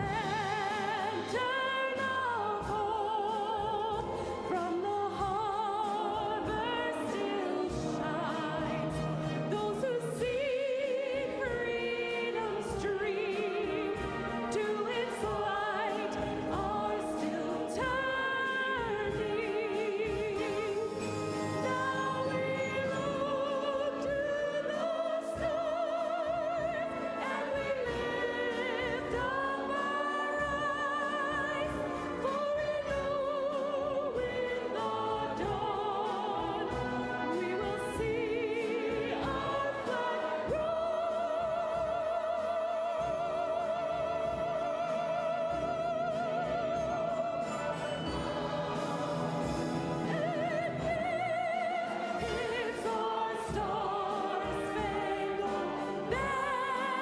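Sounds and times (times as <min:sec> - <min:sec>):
choir and orchestra performing: 0:00.0 - 0:57.0.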